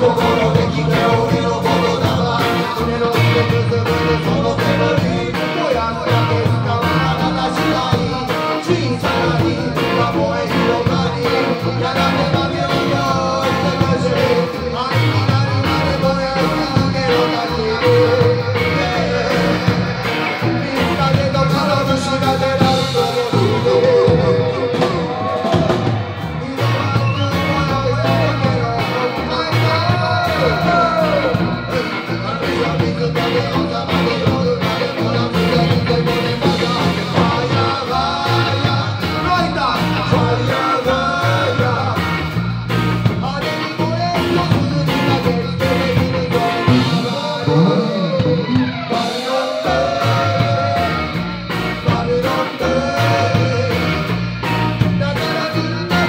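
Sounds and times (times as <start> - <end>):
bass guitar: 0.0 - 56.0
drum kit beat: 0.0 - 56.0
electric guitars: 0.0 - 56.0
man singing into microphone: 0.0 - 56.0.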